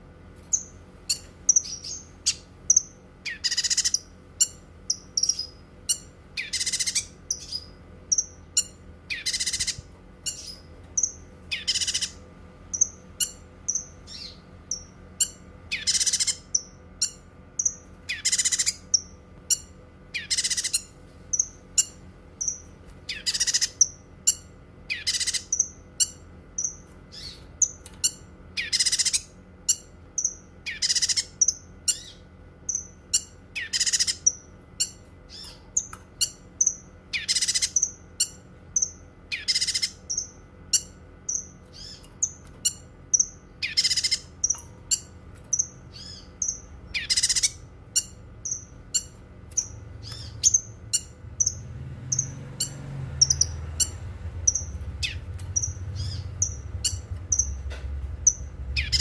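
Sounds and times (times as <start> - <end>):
bird singing harsh rattling phrases: 0.4 - 59.0
high bird chirps: 0.5 - 59.0.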